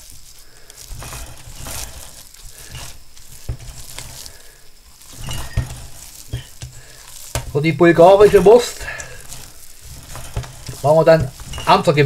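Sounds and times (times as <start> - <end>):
wet squelching of minced meat: 1.8 - 12.0.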